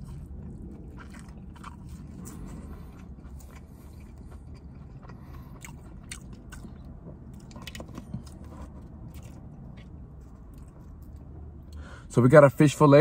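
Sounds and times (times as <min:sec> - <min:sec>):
man chewing food: 0:00.0 - 0:11.8
low steady hum: 0:00.0 - 0:13.0.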